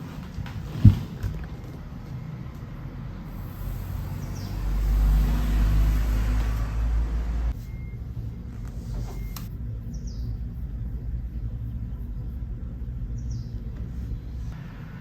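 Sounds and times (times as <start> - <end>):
vehicle low rumble: 0.0 - 15.0.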